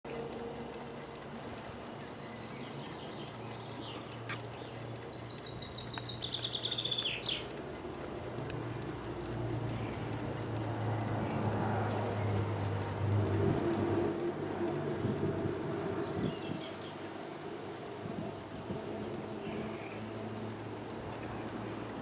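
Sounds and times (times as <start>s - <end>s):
steady hiss: 0.1s - 22.0s.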